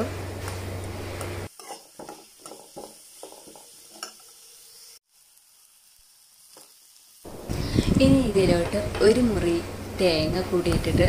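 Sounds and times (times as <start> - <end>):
frying sizzle: 0.0 - 11.0.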